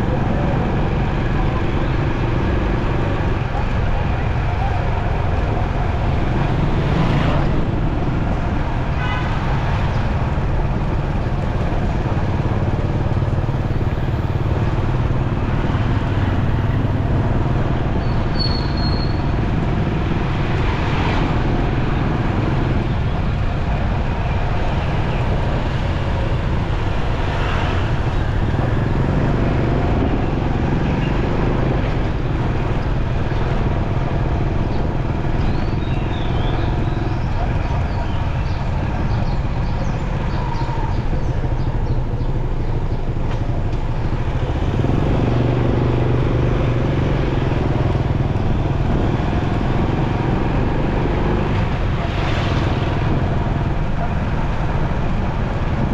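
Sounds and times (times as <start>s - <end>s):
motorcycle engine and road rumble: 0.0s - 55.9s
vehicles passing: 0.0s - 55.9s.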